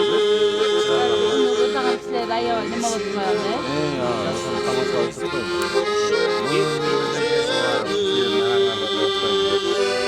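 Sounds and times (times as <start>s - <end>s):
accordion music: 0.0s - 10.0s.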